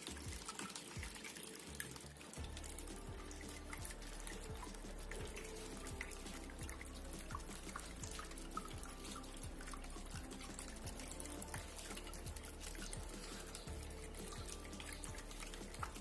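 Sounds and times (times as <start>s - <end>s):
fountain water trickling and dripping: 0.0s - 16.0s.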